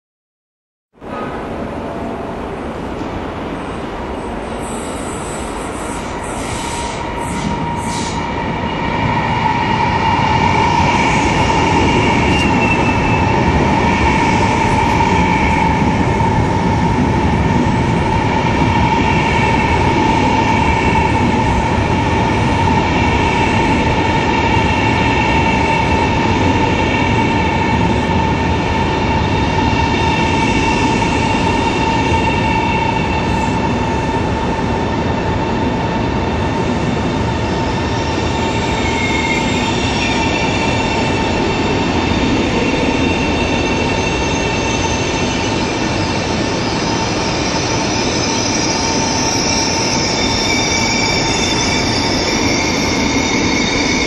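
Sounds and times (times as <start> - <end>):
train electric hum: 1.0 - 54.0.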